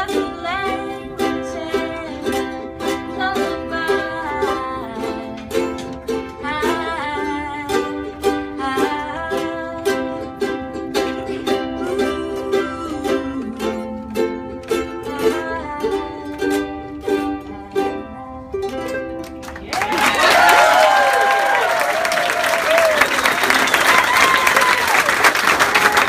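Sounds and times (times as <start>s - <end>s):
ukuleles strumming: 0.0s - 26.0s.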